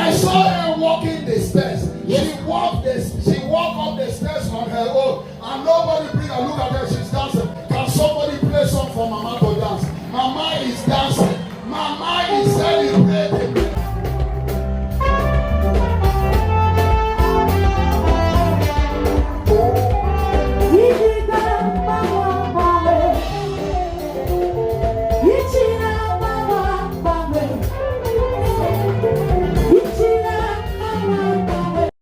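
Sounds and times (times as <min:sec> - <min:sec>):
band music with singing: 0:00.0 - 0:31.9.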